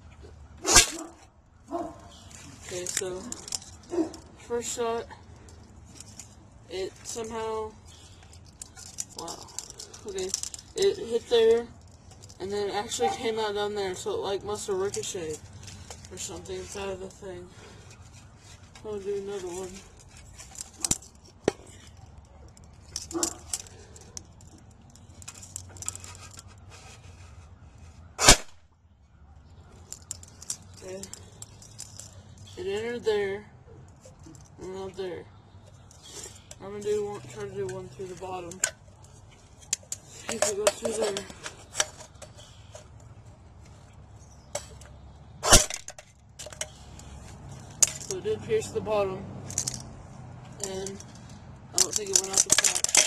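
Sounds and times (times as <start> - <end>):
handling clicks and rustles: 0.0 - 28.6, 29.2 - 53.0.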